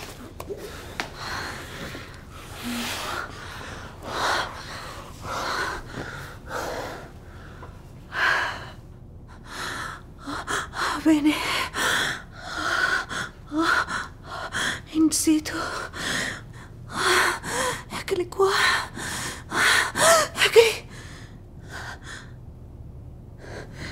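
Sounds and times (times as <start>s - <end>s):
woman breathing heavily: 0.5s - 14.9s, 15.5s - 22.5s, 23.3s - 23.9s.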